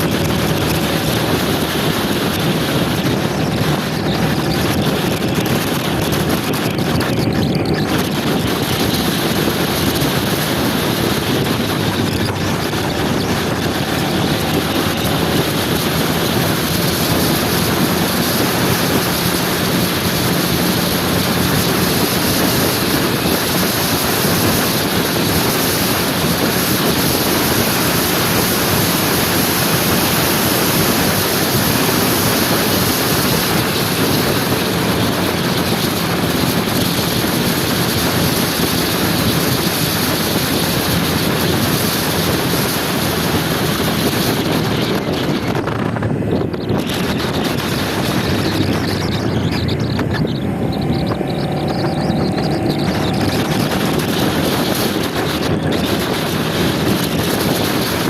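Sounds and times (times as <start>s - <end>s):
scooter engine humming: 0.0s - 58.0s
wind rushing over microphone: 0.0s - 58.0s.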